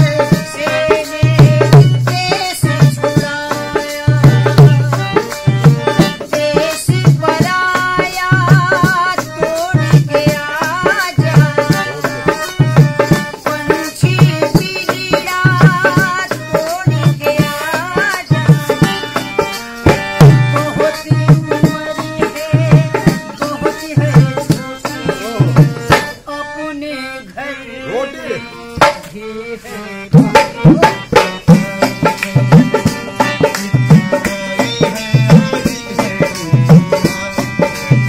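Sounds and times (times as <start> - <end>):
rattling percussion: 0.0 - 26.2, 30.1 - 38.0
woman singing with vibrato: 0.0 - 37.4
harmonium chords: 0.0 - 38.0.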